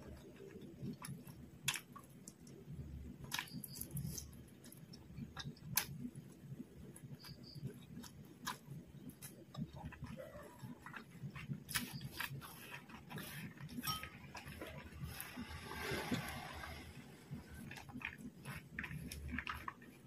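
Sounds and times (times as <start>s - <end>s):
close chewing of meat: 0.0s - 20.0s.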